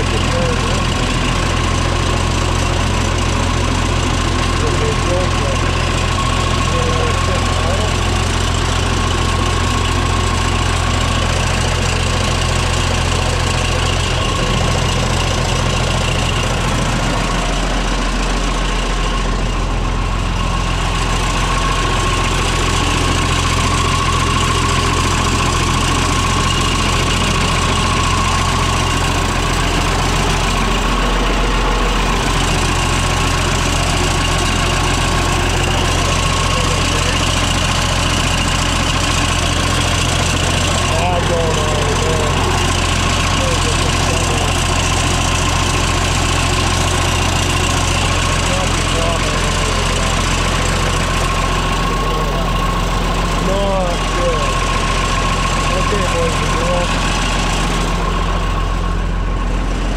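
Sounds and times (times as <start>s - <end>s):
diesel tractor engine idling: 0.0s - 59.9s.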